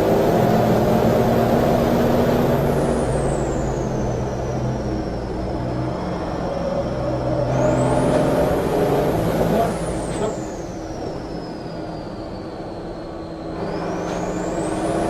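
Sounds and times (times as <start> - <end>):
diesel engine pulling under power: 0.0 - 15.0.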